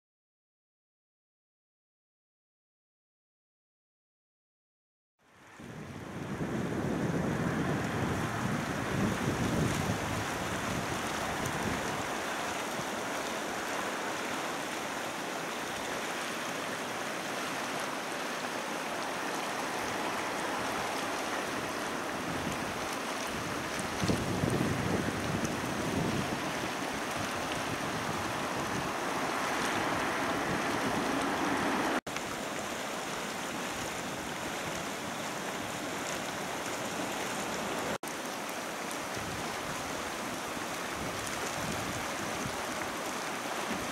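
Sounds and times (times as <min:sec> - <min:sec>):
water churning and splashing: 0:06.0 - 0:43.9.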